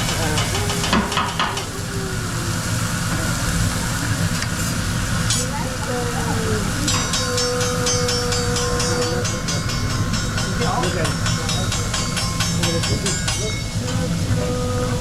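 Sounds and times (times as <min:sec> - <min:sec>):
food sizzling on a griddle: 0:00.0 - 0:15.0
low background hum: 0:00.0 - 0:15.0.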